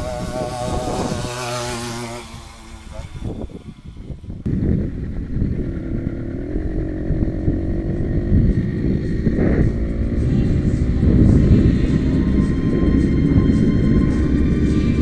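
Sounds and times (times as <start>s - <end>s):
two-stroke engine drone: 0.0s - 15.0s.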